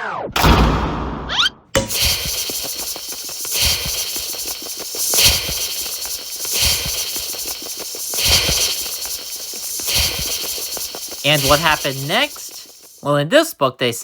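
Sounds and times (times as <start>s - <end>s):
rhythmic pulsing hiss: 1.8s - 13.2s.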